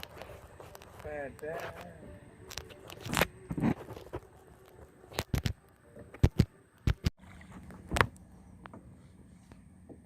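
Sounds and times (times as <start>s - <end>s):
faint outdoor background noise: 0.0s - 10.0s.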